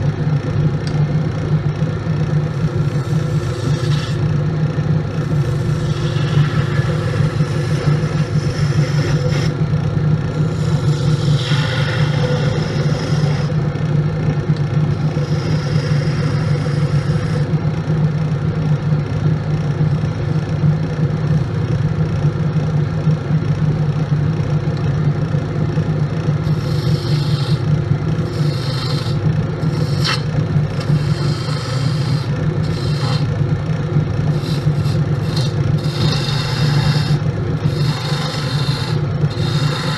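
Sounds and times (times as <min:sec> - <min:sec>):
turning tool cutting spinning wood: 0:00.0 - 0:21.0, 0:25.7 - 0:39.9
lathe motor hum: 0:00.0 - 0:39.9.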